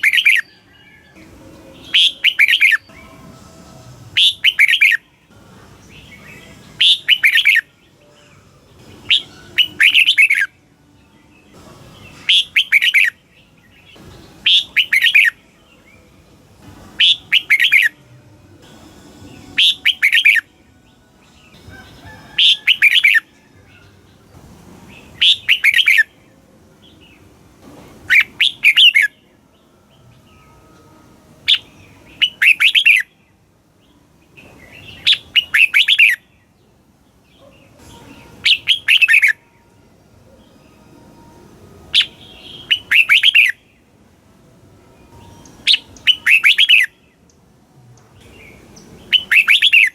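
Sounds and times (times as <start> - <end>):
bulbul singing: 0.0 - 49.9.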